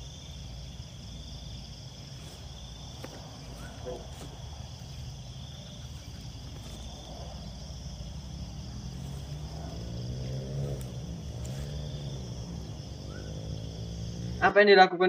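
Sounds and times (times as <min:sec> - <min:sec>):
low droning hum: 0:00.0 - 0:14.4
night insects chirring: 0:00.0 - 0:14.7.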